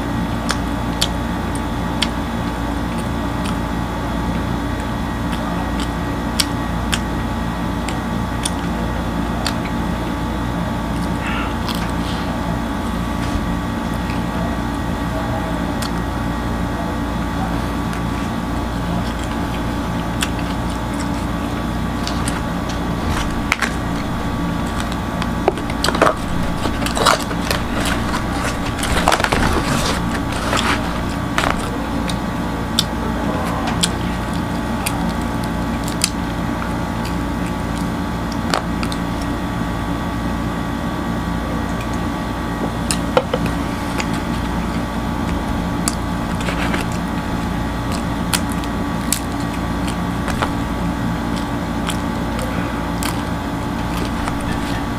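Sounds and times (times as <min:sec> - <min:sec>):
steady hum: 0:00.0 - 0:54.9
bread crackling and crunching: 0:00.3 - 0:33.0, 0:33.7 - 0:54.9.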